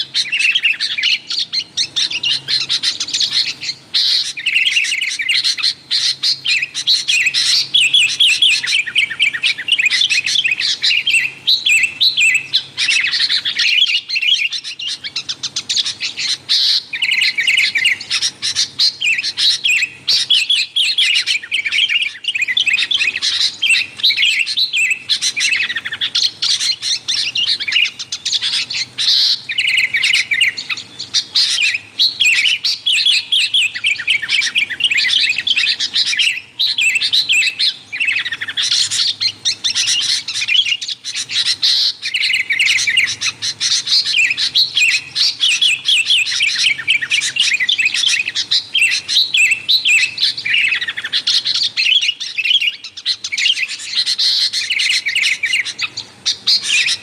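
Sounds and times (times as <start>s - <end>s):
bulbuls chattering: 0.0s - 57.0s.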